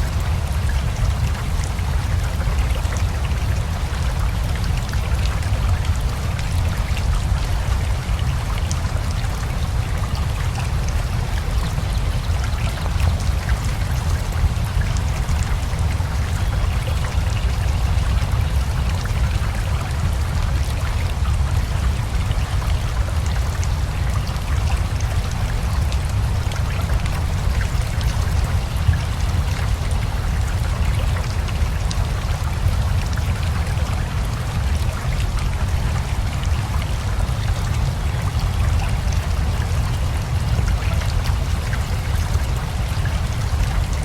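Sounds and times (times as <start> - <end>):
river flowing: 0.0 - 44.0
steady rain: 0.0 - 44.0.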